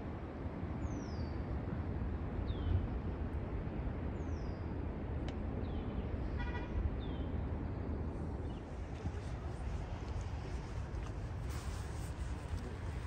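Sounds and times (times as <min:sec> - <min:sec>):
low rush of wind: 0:00.0 - 0:13.0.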